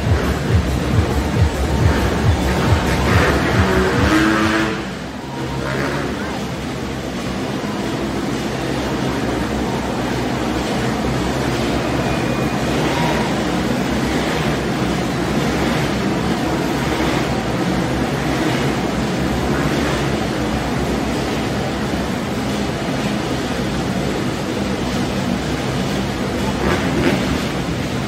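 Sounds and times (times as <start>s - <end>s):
motorcycles engines circling: 0.0s - 28.0s.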